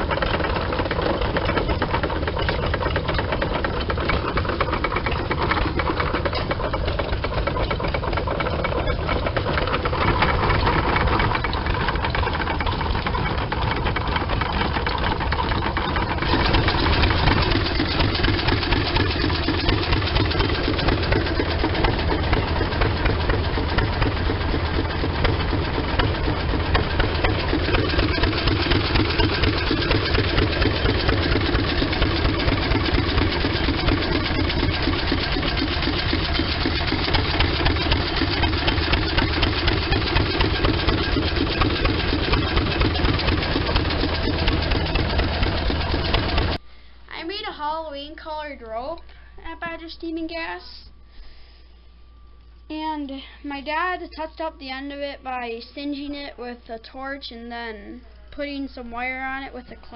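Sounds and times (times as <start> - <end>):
tractor engine running: 0.0 - 48.6.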